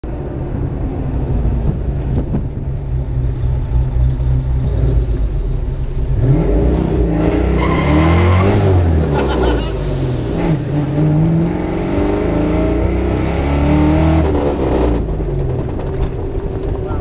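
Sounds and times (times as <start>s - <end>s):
car engine rumbling and revving: 0.0s - 17.0s.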